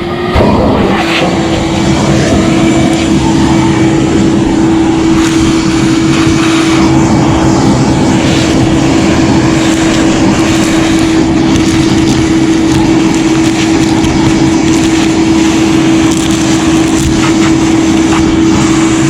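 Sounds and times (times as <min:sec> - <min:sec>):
machine humming: 0:00.0 - 0:19.0
rushing noise: 0:00.0 - 0:19.0.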